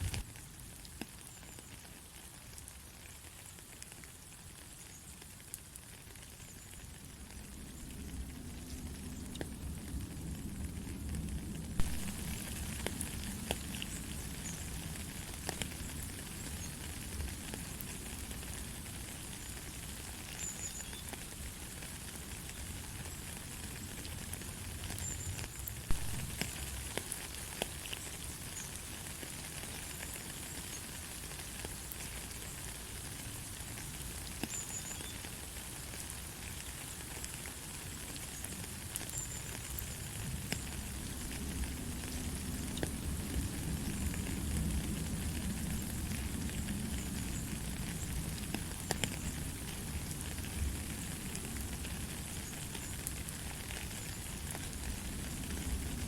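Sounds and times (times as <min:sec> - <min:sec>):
light rain: 0:00.0 - 0:56.0
raindrops ticking: 0:00.0 - 0:56.0.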